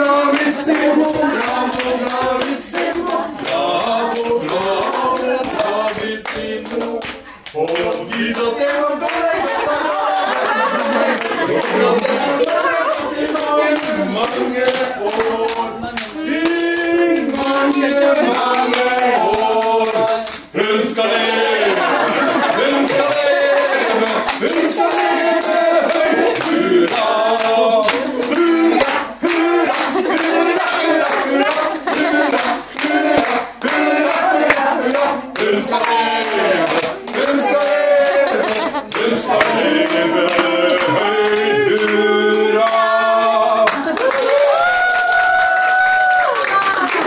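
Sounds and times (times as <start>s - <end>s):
hand clapping: 0.0s - 20.5s, 21.2s - 42.0s, 42.7s - 47.0s
group of people singing: 0.0s - 44.7s.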